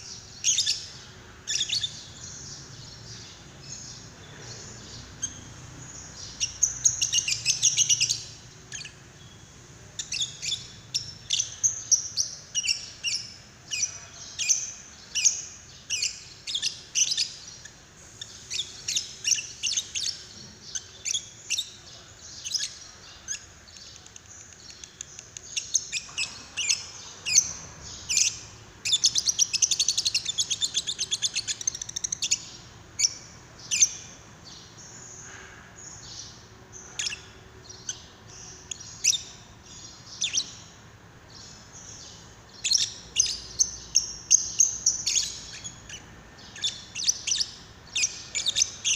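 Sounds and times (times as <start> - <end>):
lovebird chirping and trilling: 0.1 - 9.4, 10.0 - 21.8, 24.7 - 35.2, 35.9 - 40.7, 41.4 - 48.9.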